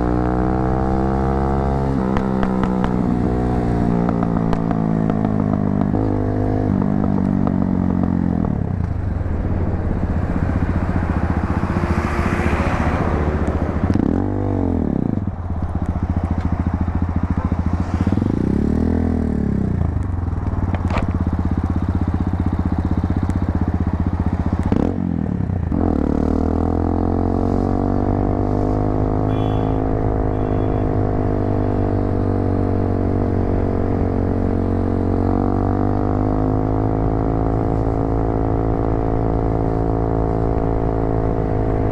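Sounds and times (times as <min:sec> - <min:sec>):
motorcycle exhaust revving: 0:00.0 - 0:41.9.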